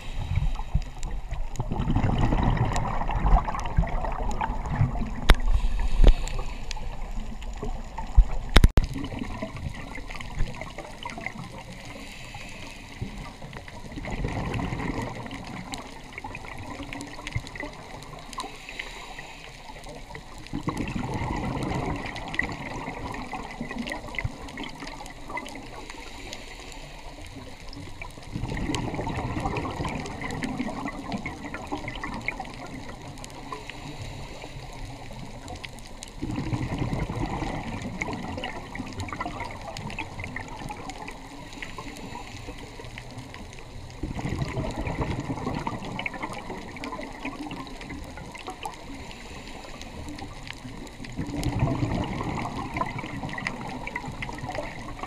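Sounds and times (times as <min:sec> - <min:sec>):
exhaled bubbles underwater: 0:00.0 - 0:55.0
faint crackling clicks: 0:00.0 - 0:55.0
steady underwater hiss: 0:00.0 - 0:55.0.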